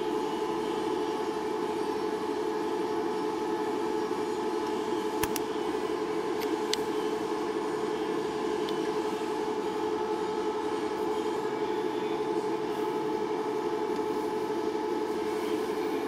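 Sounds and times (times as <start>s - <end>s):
mechanical hum with thin whine: 0.0s - 16.0s.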